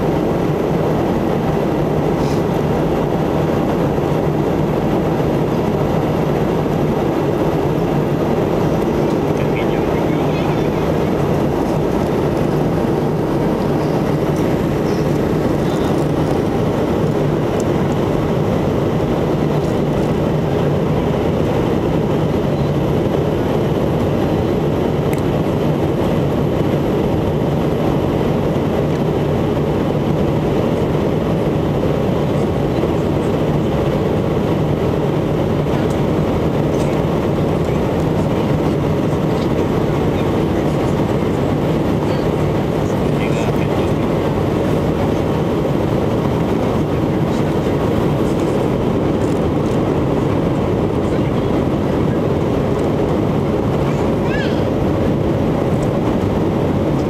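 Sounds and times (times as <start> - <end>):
airflow: 0.0 - 57.0
jet engine rumble: 0.0 - 57.0.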